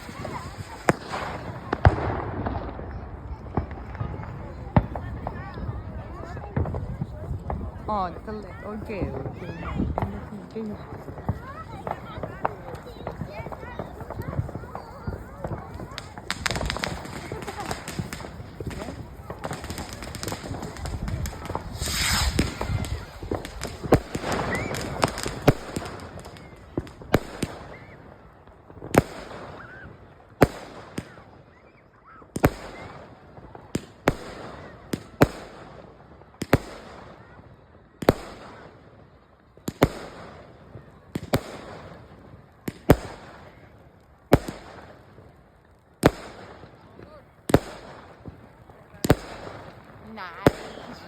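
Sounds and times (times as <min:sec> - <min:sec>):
firework bangs: 0:00.0 - 0:51.0
firework burst with hissing crackle: 0:00.0 - 0:51.0.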